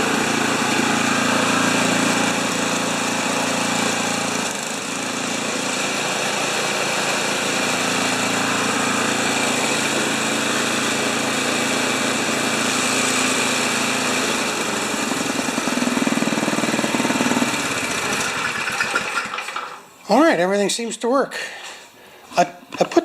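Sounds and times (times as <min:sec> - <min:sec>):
snowblower engine running: 0:00.0 - 0:19.9.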